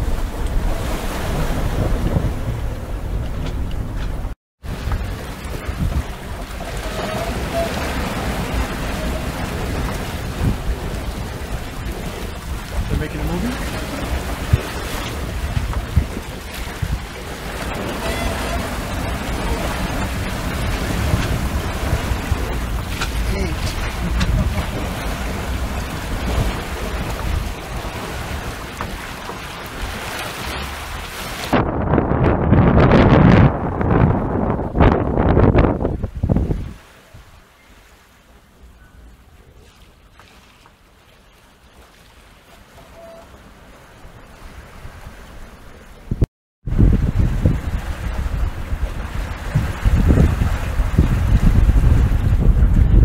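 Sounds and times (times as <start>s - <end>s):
wind buffeting microphone: 0.0s - 37.4s, 44.0s - 53.0s
water rushing past hull: 0.0s - 53.0s.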